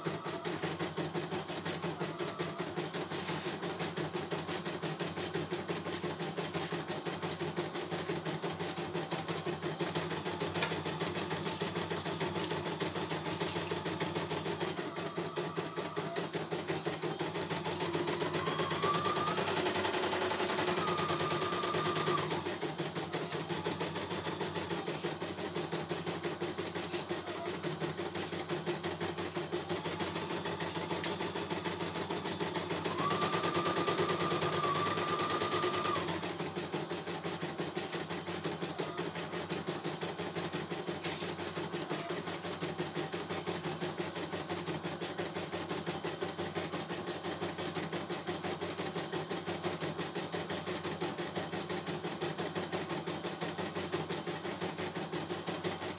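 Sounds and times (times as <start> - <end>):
embroidery machine stitching: 0.0 - 55.9.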